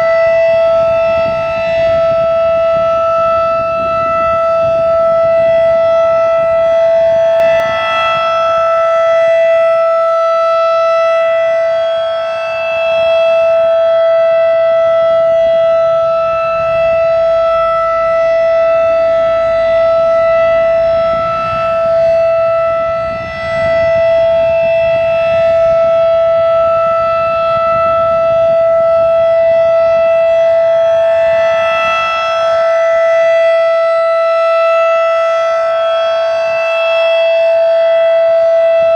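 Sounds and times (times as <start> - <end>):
rotating siren steady tone: 0.0 - 38.9.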